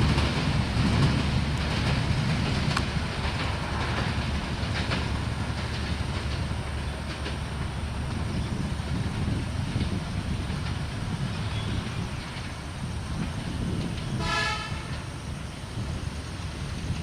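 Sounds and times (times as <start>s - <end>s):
train rolling past: 0.0s - 17.0s
wheels clicking over rail joints: 0.0s - 17.0s.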